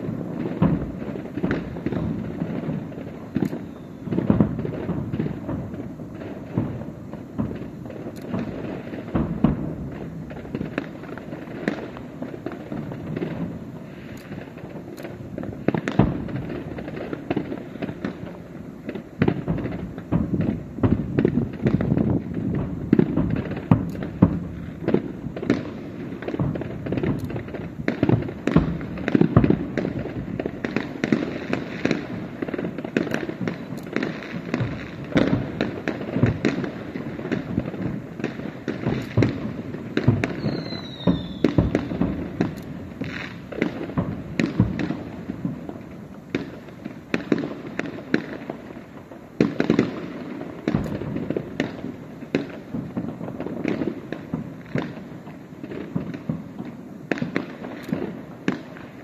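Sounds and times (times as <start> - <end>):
falling firework whistle: 0.0 - 48.5
firework shells bursting: 0.0 - 59.0.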